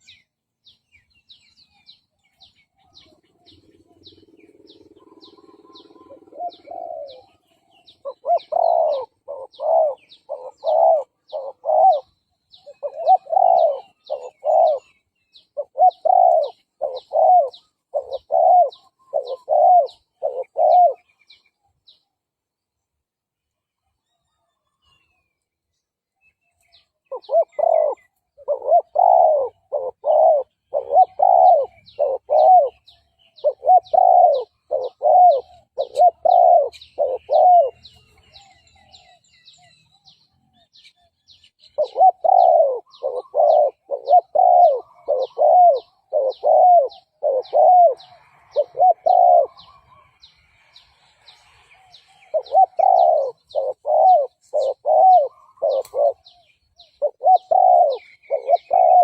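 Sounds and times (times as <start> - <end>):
dove cooing: 2.8 - 21.4, 27.1 - 39.7, 41.6 - 50.4, 51.4 - 59.0.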